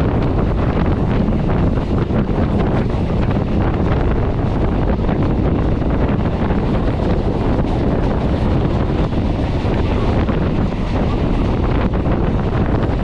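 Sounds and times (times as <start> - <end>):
electric train rumble: 0.0 - 13.0
wind buffeting microphone: 0.0 - 13.0.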